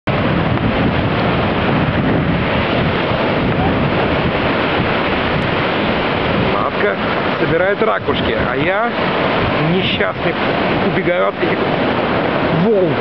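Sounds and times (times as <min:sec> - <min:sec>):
waves breaking over shallows: 0:00.1 - 0:13.0.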